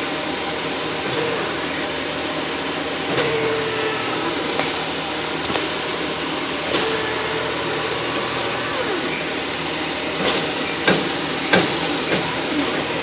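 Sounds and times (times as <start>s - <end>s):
workshop machine hum: 0.0s - 13.0s.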